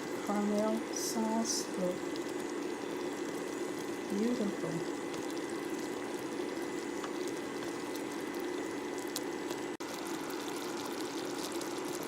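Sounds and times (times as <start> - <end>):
caramel sauce bubbling in a pot: 0.0 - 12.0
steady hum: 0.0 - 12.0.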